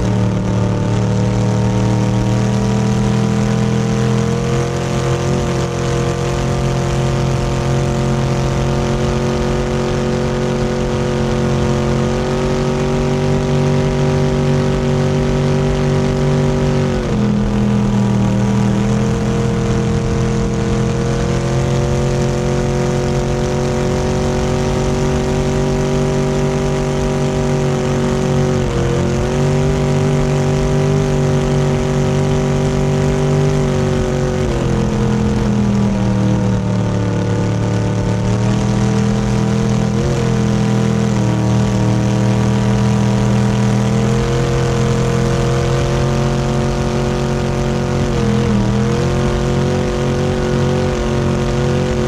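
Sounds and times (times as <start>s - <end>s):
motorboat engine running: 0.0s - 52.0s.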